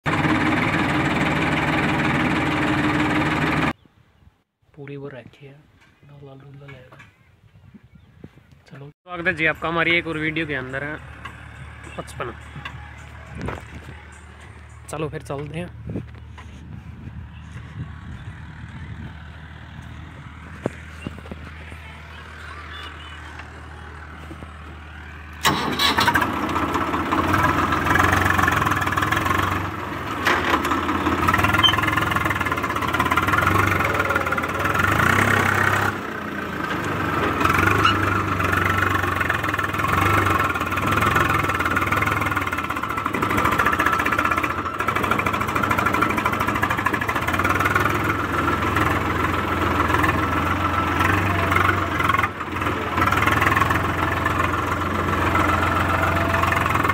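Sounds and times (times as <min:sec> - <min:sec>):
diesel tractor engine running: 0:00.0 - 0:03.8, 0:07.9 - 0:56.9.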